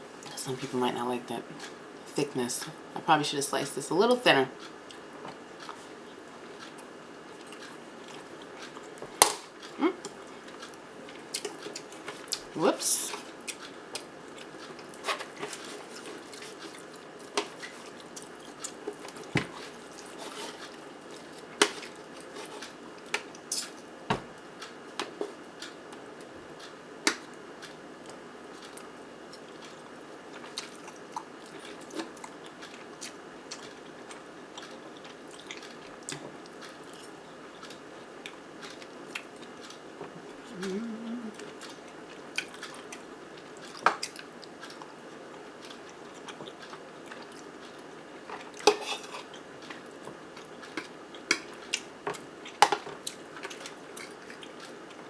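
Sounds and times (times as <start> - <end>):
person chewing food: 4.6 - 12.5, 13.2 - 23.9, 24.6 - 55.0.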